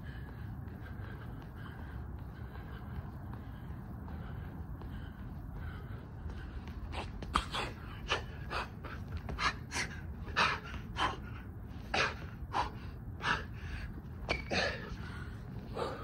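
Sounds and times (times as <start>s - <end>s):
man gasping breaths: 0.0s - 16.0s.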